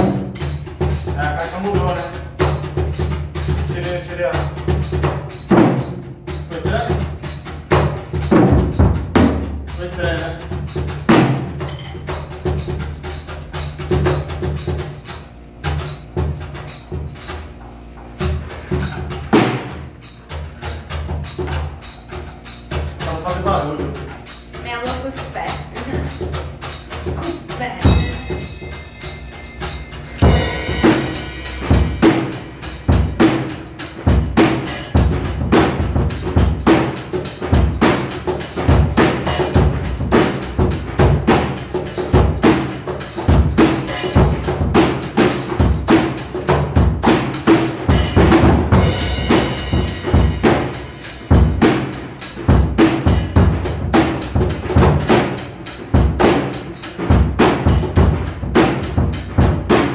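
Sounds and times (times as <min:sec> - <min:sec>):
drum kit playing: 0:00.0 - 0:59.9.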